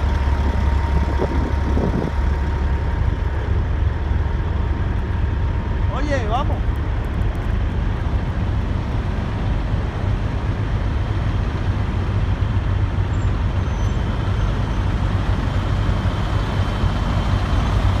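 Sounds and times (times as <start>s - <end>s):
diesel trucks idling rumble: 0.0s - 18.0s.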